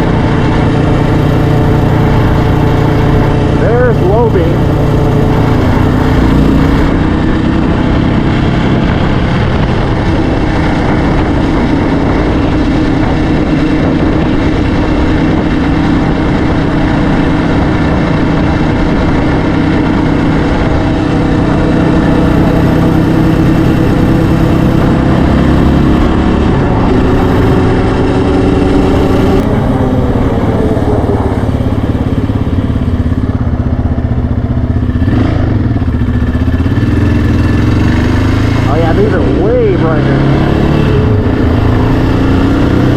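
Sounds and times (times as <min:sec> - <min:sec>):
quad bike engine running: 0:00.0 - 0:42.9.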